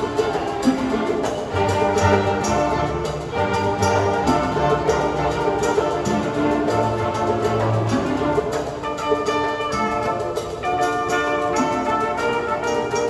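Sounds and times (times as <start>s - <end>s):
cellos and double bass low notes: 0.0s - 13.0s
string section playing: 0.0s - 13.0s.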